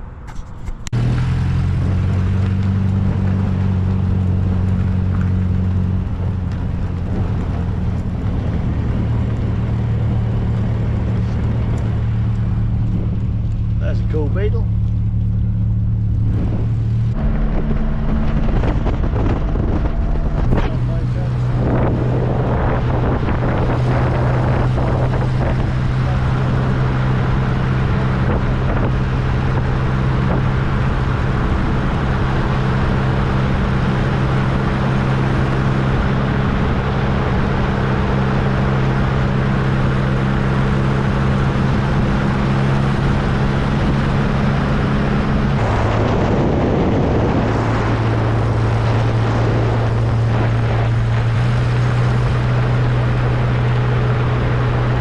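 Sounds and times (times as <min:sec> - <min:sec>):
wind noise on microphone: 0:00.0 - 0:14.1, 0:15.0 - 0:55.0
car engine cruising: 0:00.0 - 0:55.0.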